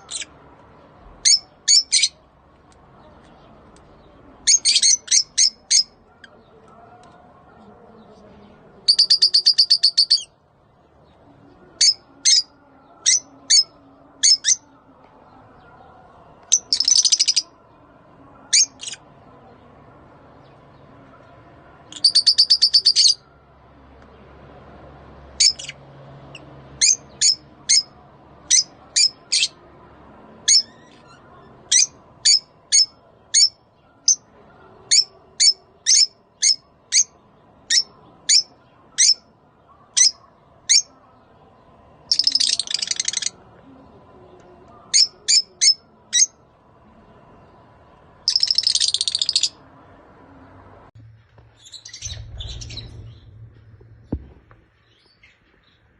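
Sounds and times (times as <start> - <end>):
lovebirds chattering: 0.0 - 50.9, 51.6 - 53.4
lovebirds chirping: 0.0 - 55.9.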